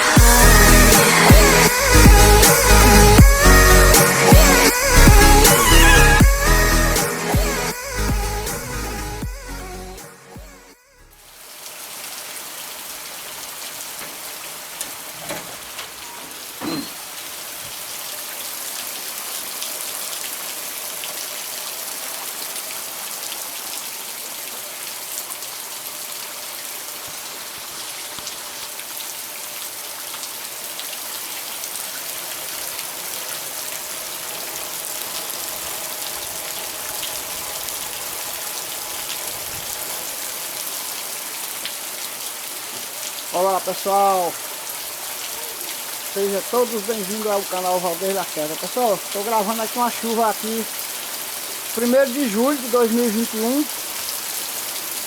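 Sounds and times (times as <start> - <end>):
heavy rain falling: 0.0 - 9.4, 11.2 - 55.0.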